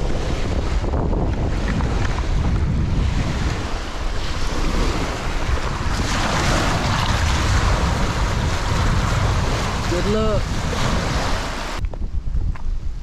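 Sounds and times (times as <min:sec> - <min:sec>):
waves washing against bank: 0:00.0 - 0:11.8
wind buffeting microphone: 0:00.0 - 0:13.0.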